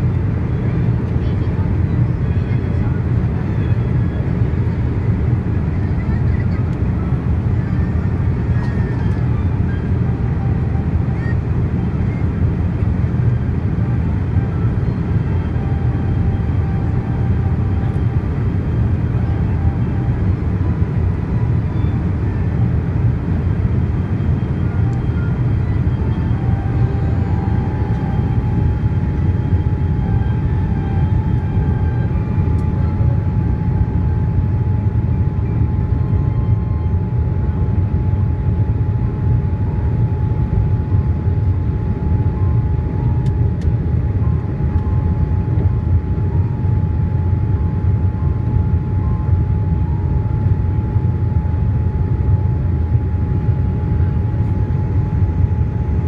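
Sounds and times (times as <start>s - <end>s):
airliner cabin engine rumble: 0.0s - 56.0s
faint steady whine: 0.0s - 56.0s.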